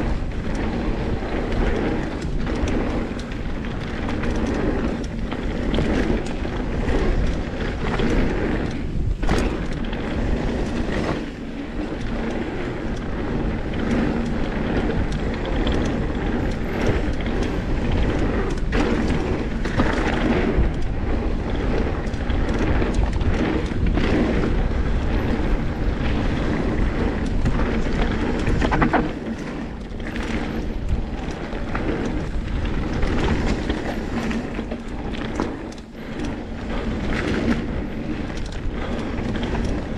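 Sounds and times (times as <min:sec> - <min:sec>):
bike rattles and knocks: 0:00.0 - 0:39.9
bike tyres crunching on gravel: 0:00.0 - 0:39.9
wind on microphone: 0:00.0 - 0:39.9.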